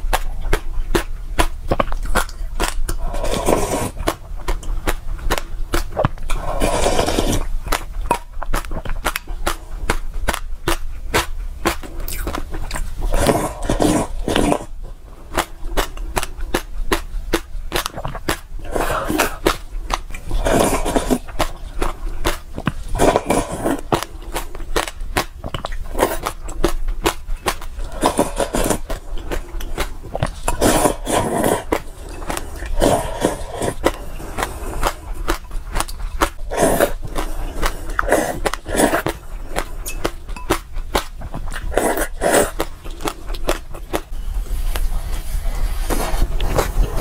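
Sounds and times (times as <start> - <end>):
person gulping and swallowing: 1.4 - 10.4, 11.8 - 44.1.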